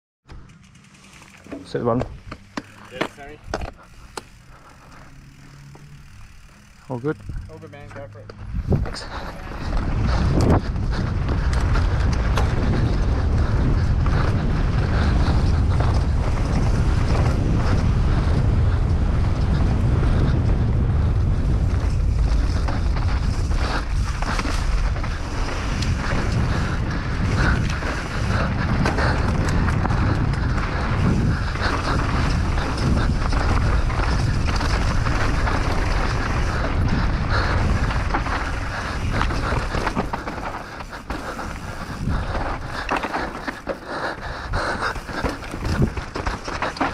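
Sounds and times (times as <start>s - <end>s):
bike knocking and rattling: 0.3s - 46.9s
bike tyres on dirt: 0.3s - 46.9s
wind rumbling on microphone: 8.3s - 46.9s.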